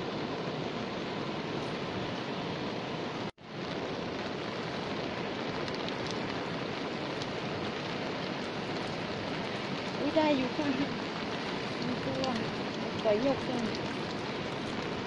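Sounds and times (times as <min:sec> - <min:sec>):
light rain on river water: 0:00.0 - 0:15.0.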